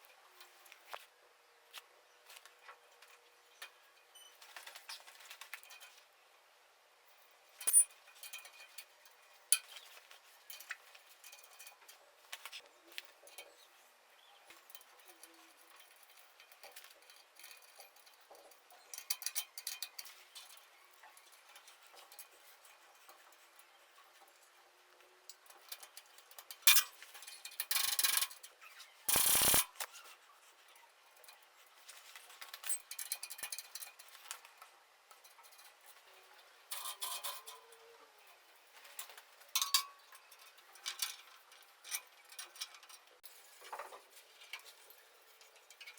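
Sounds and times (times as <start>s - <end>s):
tools and metal parts clinking: 3.6s - 6.0s, 7.5s - 13.6s, 14.6s - 24.4s, 25.3s - 30.0s, 31.2s - 34.5s, 35.2s - 45.9s.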